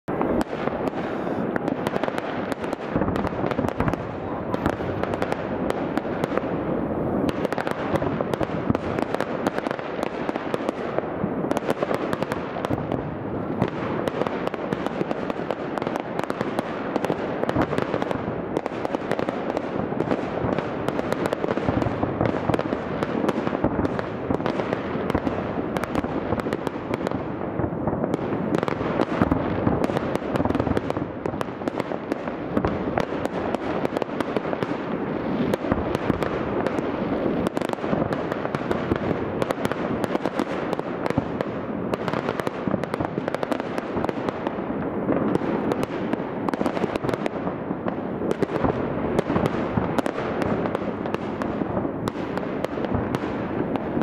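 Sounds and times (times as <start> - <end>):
distant fireworks bangs and crackles: 0.0 - 54.0.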